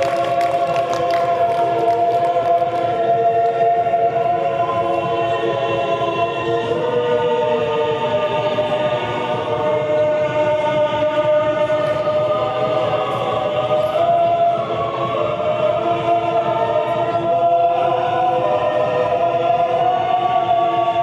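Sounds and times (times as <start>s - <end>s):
slow choral singing: 0.0s - 21.0s.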